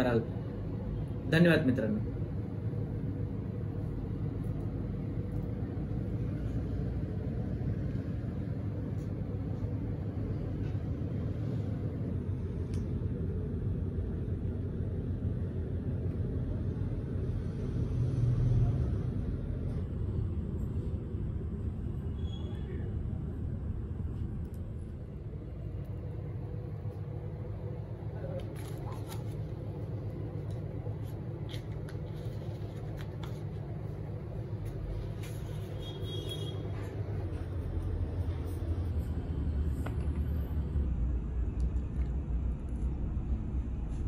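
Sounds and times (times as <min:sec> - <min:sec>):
low background rumble: 0:00.0 - 0:44.0.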